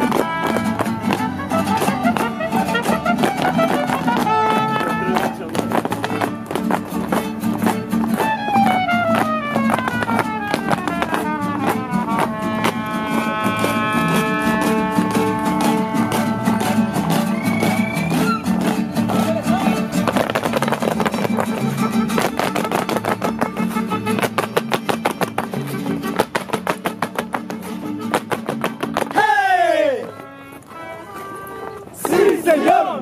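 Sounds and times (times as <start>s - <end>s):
violins playing in harmony: 0.0s - 29.2s, 29.9s - 33.0s
strummed guitars: 0.0s - 33.0s.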